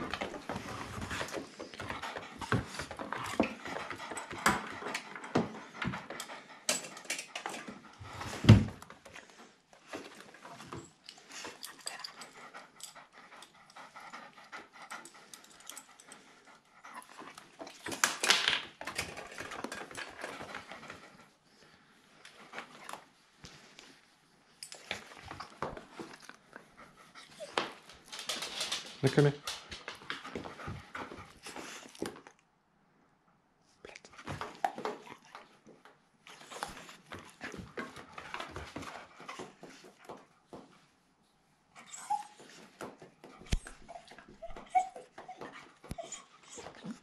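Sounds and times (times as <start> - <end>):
dog panting: 0.0 - 18.2, 18.8 - 32.4, 33.9 - 41.1, 41.7 - 47.0.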